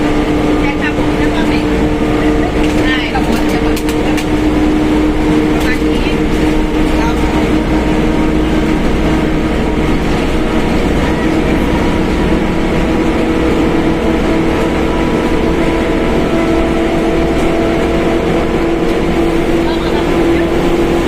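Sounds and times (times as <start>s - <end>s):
bus drivetrain rumbling: 0.0s - 21.0s
loud differential whine: 0.0s - 21.0s.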